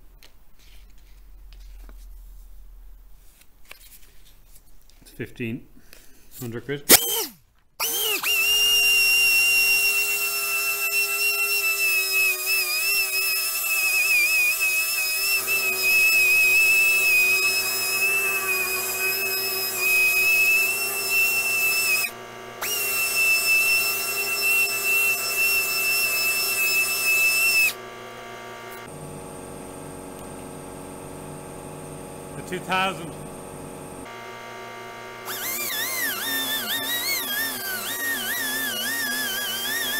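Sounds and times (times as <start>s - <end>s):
power sander whine: 6.9s - 39.9s.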